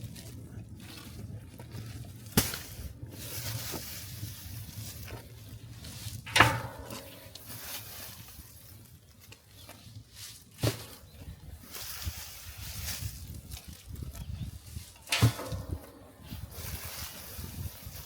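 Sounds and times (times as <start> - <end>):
leaf fire crackling: 0.0 - 18.0.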